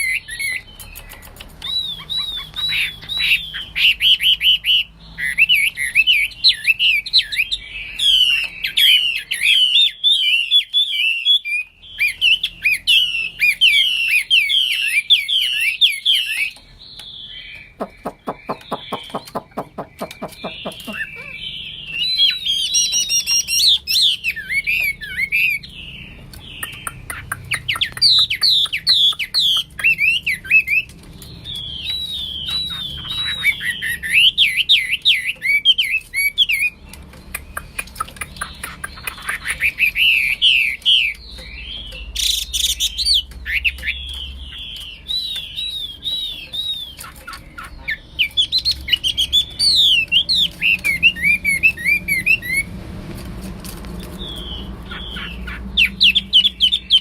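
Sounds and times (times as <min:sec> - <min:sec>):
bird singing whistled notes: 0:00.0 - 0:52.7, 0:54.2 - 0:57.0.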